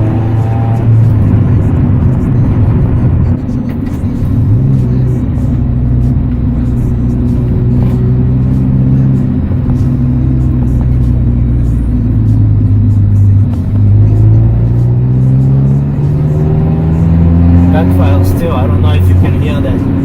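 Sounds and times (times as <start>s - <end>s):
deep exhaust drone: 0.0s - 20.0s.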